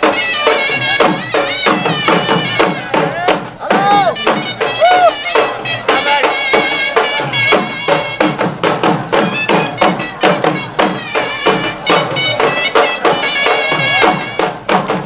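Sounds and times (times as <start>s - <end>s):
dhol drum beats: 0.0s - 15.0s
reedy shawm melody: 0.0s - 15.0s.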